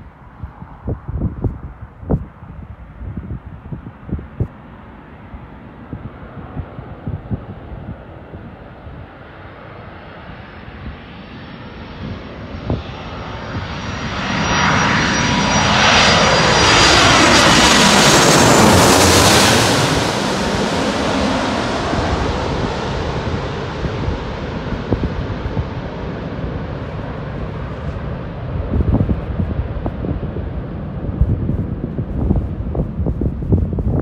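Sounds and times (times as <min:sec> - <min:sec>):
jet engine rush with whine: 0:00.0 - 0:34.0.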